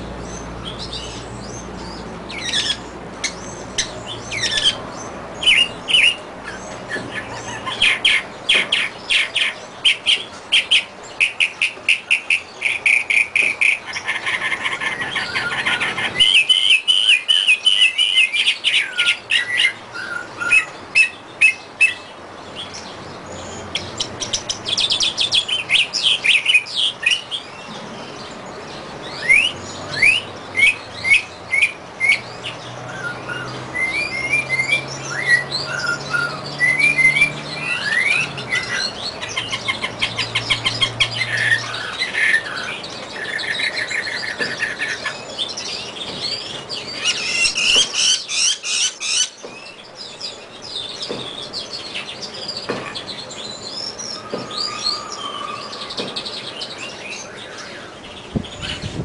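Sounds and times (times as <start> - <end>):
mockingbird singing: 0.0 - 59.0.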